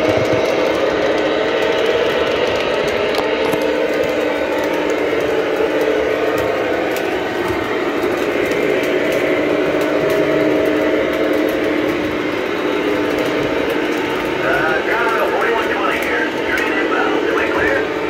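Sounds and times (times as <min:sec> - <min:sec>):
model train motor rumble: 0:00.0 - 0:18.0
wheels rolling on metal rails: 0:00.0 - 0:18.0.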